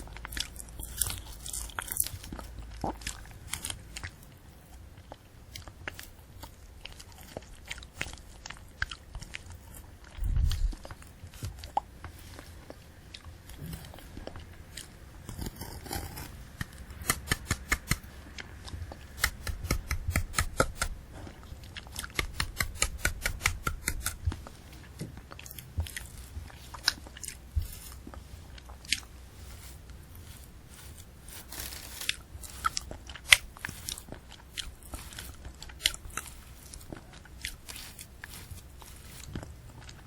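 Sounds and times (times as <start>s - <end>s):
candy apple crunching: 0.0s - 40.0s.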